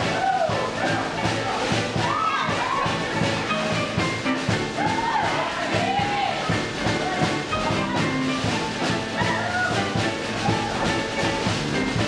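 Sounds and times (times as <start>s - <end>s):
live rock and roll band: 0.0s - 12.0s.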